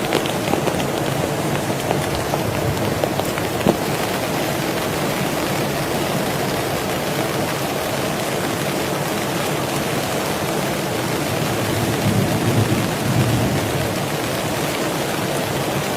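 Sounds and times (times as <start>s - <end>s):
heavy rain: 0.0s - 15.9s.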